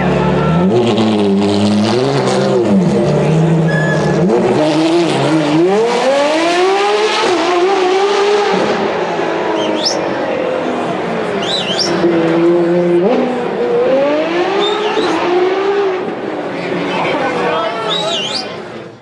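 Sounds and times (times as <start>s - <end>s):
car engine revving: 0.0s - 17.3s.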